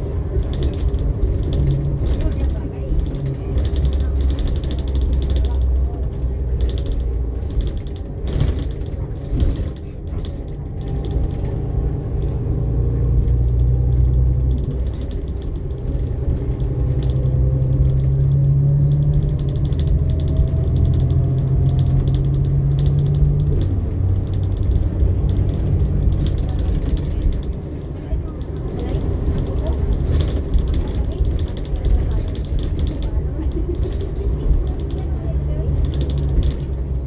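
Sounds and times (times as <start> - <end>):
bus body creaking and rattling: 0.0 - 37.0
bus engine droning: 0.0 - 37.0.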